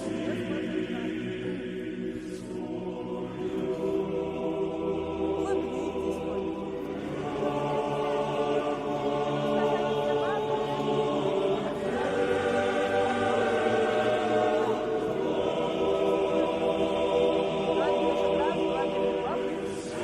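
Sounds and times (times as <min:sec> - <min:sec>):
choir singing sustained chords: 0:00.0 - 0:20.0.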